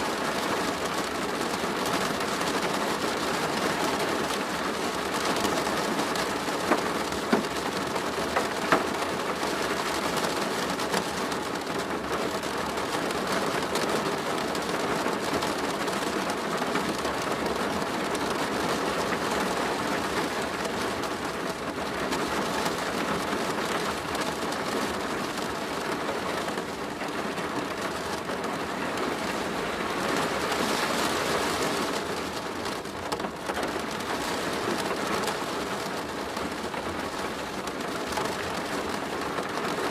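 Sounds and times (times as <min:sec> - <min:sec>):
rain on a plastic roof: 0:00.0 - 0:39.9.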